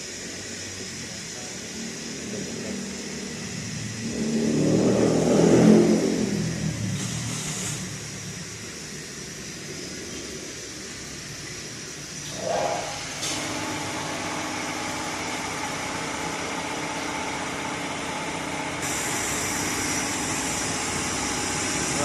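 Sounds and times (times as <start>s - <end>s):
oil changer machine humming: 0.0s - 22.0s.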